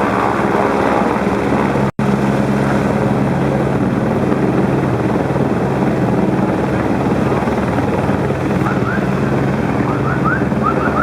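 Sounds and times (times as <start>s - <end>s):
helicopter rotor and engine drone: 0.0s - 11.0s.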